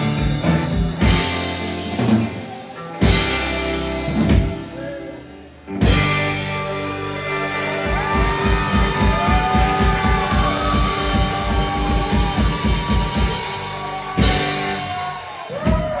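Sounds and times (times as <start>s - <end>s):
electric guitar chords: 0.0s - 15.4s
drum kit strokes: 0.0s - 16.0s.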